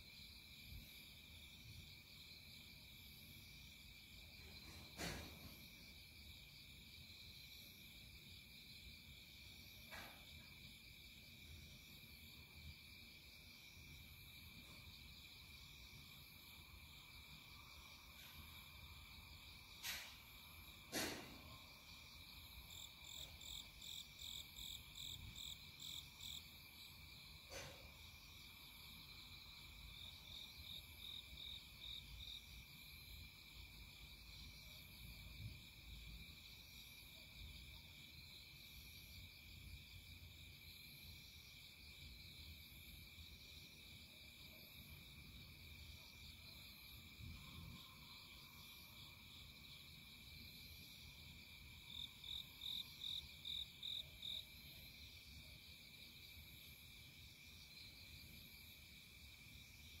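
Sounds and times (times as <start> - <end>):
insects chirping: 0.0 - 60.0.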